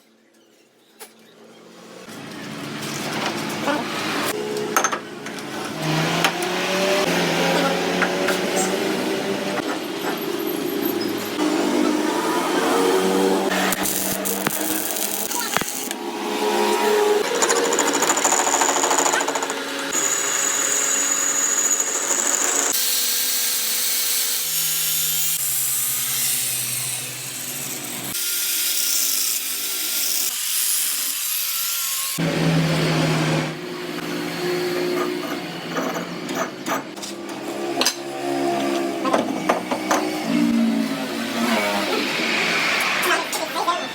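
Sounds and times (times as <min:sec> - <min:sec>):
power tools on metal: 0:03.4 - 0:43.9.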